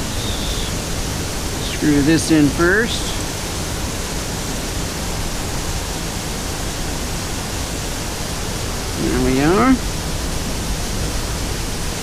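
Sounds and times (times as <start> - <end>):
ocean surf: 0.0 - 12.0
waterfall rushing: 0.0 - 12.0.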